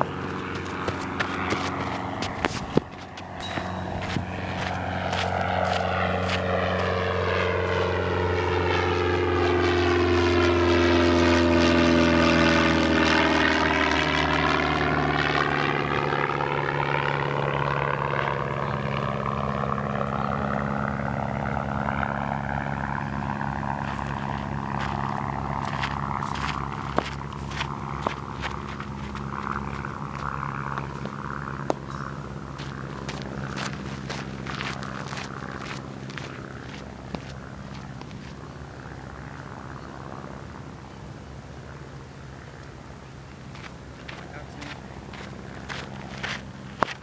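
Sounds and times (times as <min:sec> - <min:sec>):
aircraft engine drone overhead: 0:00.0 - 0:47.0.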